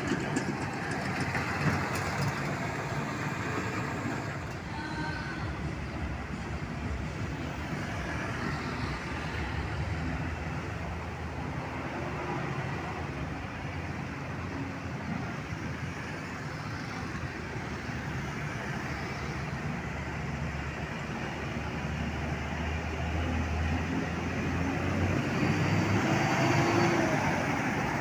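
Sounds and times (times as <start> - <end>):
trucks and buses passing: 0.0 - 28.0.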